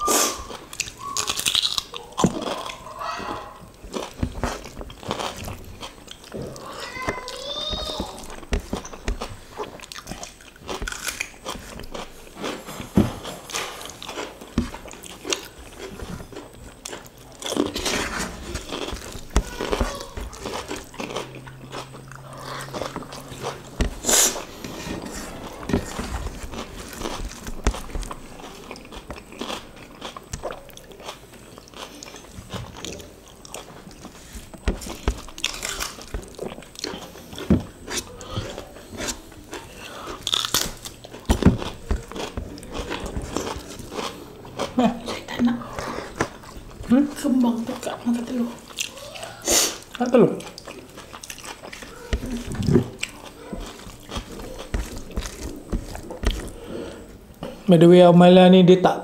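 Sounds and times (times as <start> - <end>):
people chewing and crunching: 0.0 - 57.7.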